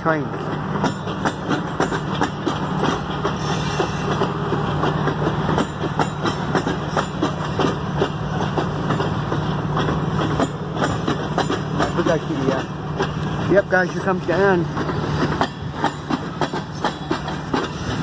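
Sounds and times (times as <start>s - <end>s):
train wheels rumbling on rails: 0.0s - 18.0s
wheels clacking over rail joints: 0.0s - 18.0s.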